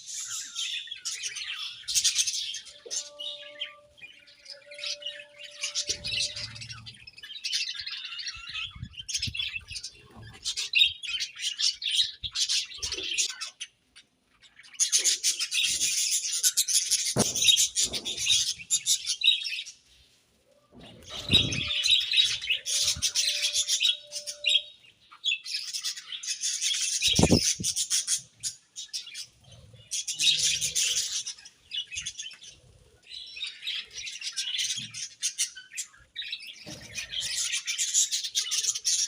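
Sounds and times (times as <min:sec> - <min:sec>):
budgerigars chirping and chattering: 0:00.0 - 0:19.8, 0:20.9 - 0:39.0.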